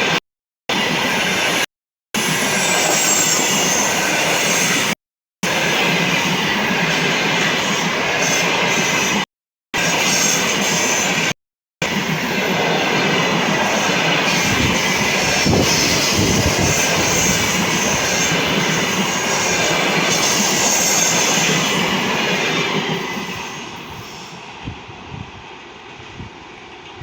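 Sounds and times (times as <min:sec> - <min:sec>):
train wheels rushing on rails: 0:00.0 - 0:27.0.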